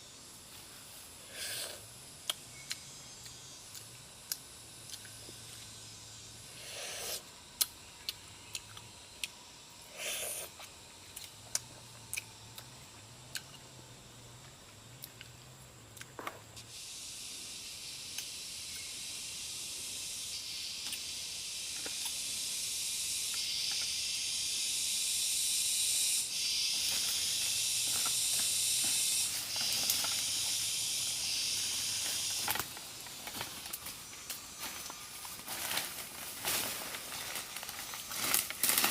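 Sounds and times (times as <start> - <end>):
high-pitched hiss: 0.0 - 15.6, 16.5 - 38.9.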